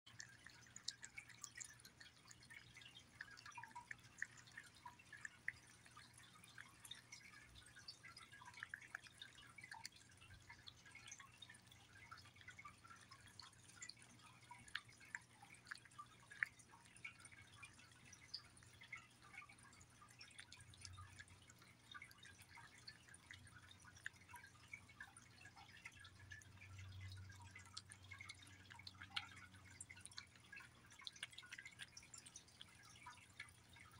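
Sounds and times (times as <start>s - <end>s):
cat chewing and licking: 0.1s - 33.9s.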